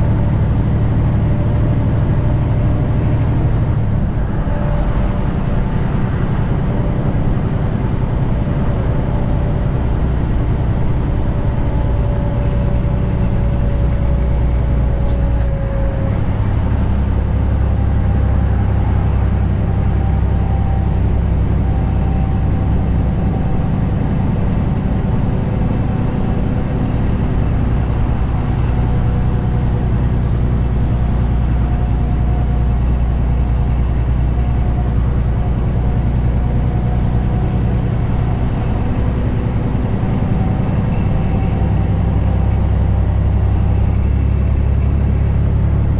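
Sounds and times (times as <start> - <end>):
truck diesel engine droning: 0.0 - 45.9.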